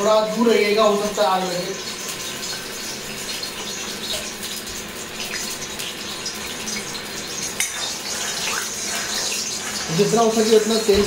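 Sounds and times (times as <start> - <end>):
oil hissing in a hot wok: 0.3 - 11.0.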